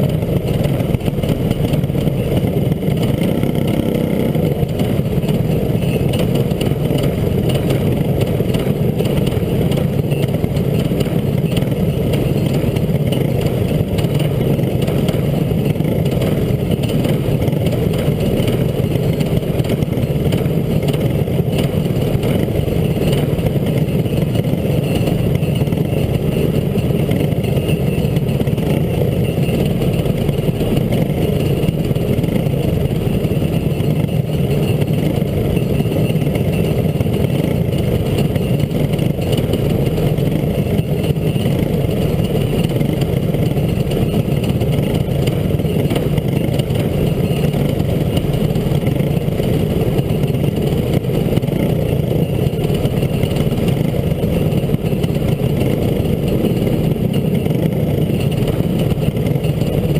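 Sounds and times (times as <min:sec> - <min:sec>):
go-kart engines running: 0:00.0 - 0:59.9.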